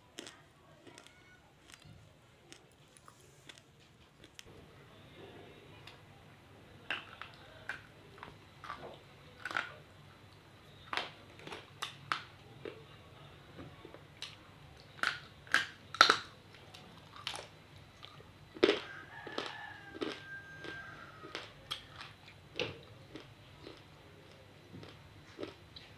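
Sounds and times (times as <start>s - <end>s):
chewing clay crunches: 0.0s - 4.5s, 6.9s - 9.8s, 10.7s - 12.9s, 13.9s - 25.9s.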